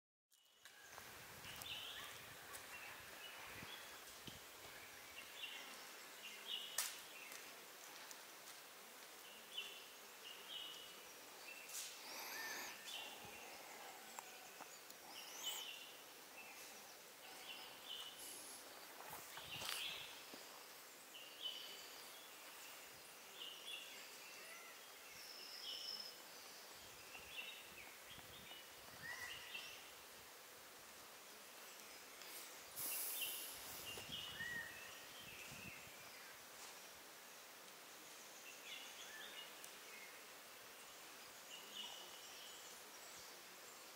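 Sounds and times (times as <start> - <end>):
faint forest ambience: 0.3 - 43.9.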